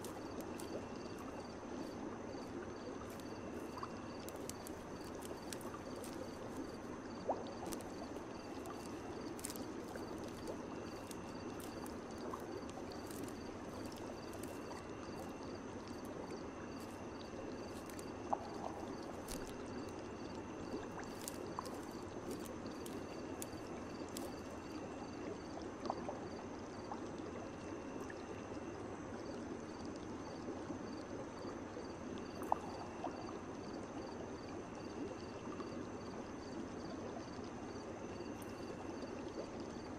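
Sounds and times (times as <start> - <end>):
gurgling running water: 0.0 - 39.9
insects chirping: 0.0 - 39.9.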